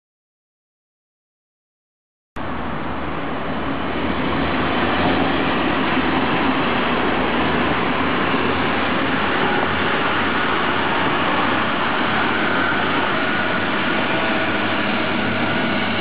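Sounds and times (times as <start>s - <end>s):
diesel engines running: 2.4s - 16.0s
train wheels on rails: 2.4s - 16.0s.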